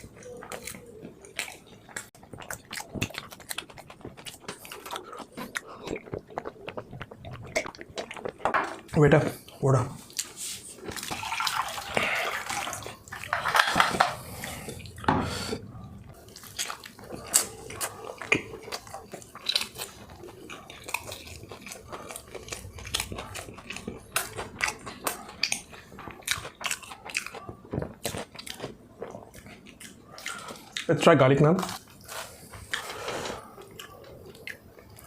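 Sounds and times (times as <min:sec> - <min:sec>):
person chewing with mouth clicks: 0:00.0 - 0:11.4, 0:13.9 - 0:30.9, 0:31.6 - 0:35.0.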